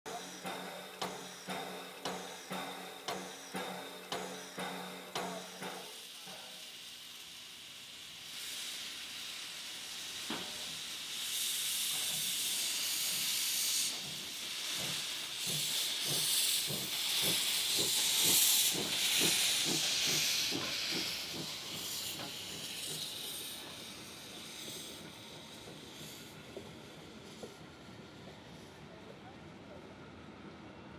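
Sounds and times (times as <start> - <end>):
steam hissing loudly: 0.1 - 29.0
steam locomotive exhaust chuffs: 0.1 - 29.3.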